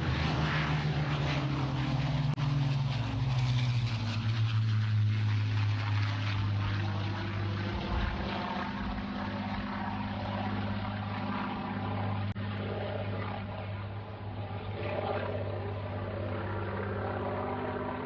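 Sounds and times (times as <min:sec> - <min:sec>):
propeller plane engine in flight: 0:00.0 - 0:18.0.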